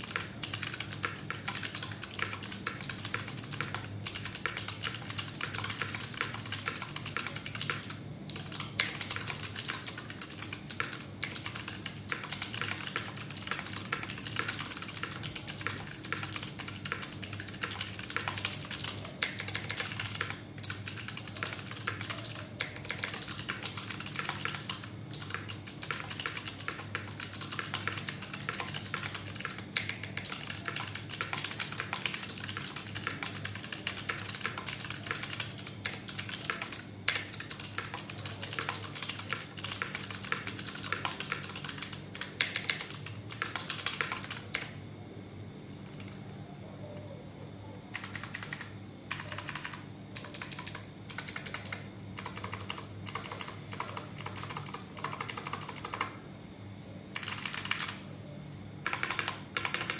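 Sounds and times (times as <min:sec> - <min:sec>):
mechanical keyboard typing: 0:00.0 - 0:44.8, 0:47.9 - 0:56.2, 0:56.8 - 0:58.0, 0:58.8 - 0:59.9.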